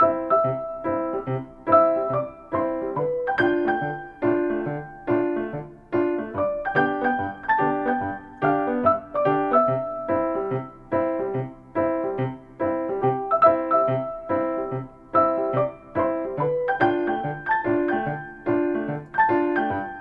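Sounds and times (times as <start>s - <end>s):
piano chords and melody: 0.0s - 20.0s.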